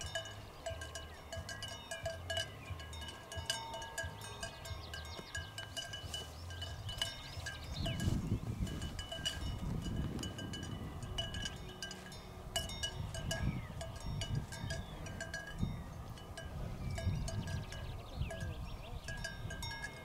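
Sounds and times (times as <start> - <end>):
cowbells clanking: 0.0 - 20.0
wind rumble on microphone: 0.0 - 20.0.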